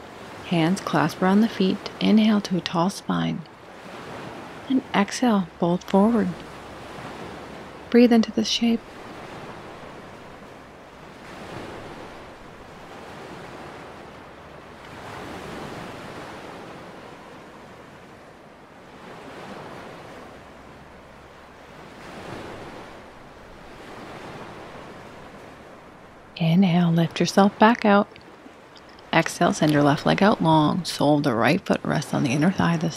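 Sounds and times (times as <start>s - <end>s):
small waves washing onto shore: 0.0s - 32.9s.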